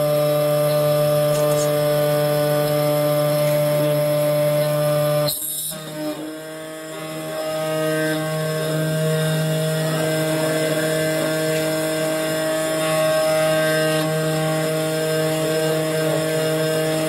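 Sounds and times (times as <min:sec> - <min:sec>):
key-cutting machine motor whine: 0:00.0 - 0:17.0.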